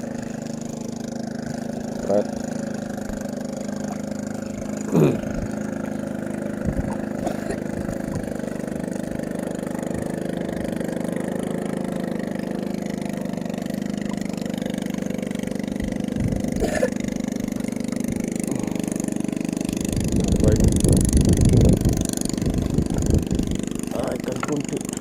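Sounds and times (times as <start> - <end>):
small engine running: 0.0 - 25.0.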